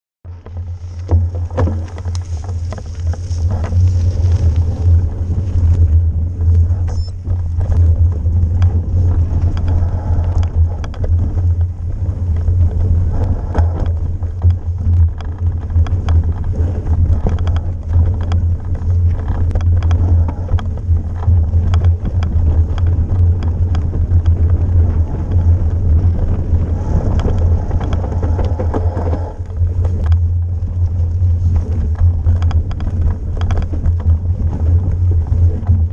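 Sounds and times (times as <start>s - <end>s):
bike rattling over bumps: 0.2s - 35.9s
bike tyres rolling on gravel: 0.2s - 35.9s
wind buffeting microphone: 0.3s - 35.9s.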